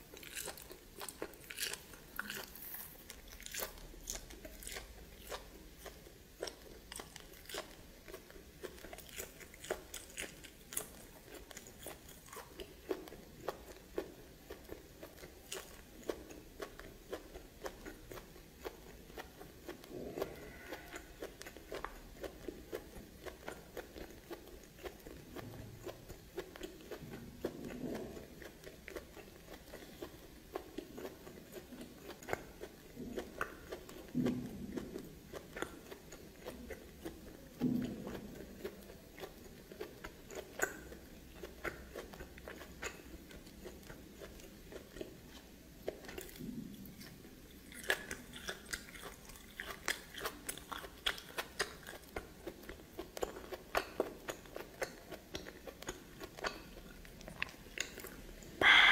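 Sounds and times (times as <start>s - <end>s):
person chewing: 0.0s - 58.9s.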